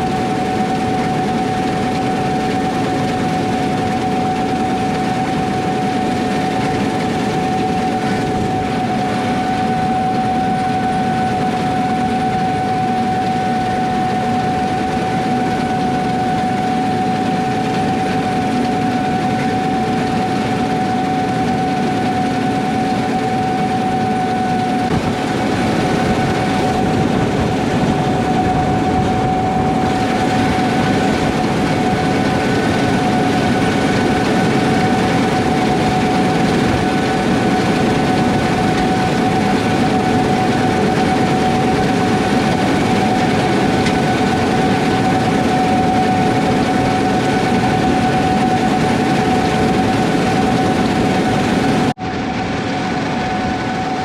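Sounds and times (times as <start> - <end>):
combine harvester engine and threshing: 0.0 - 54.0
high machine whine: 0.0 - 54.0.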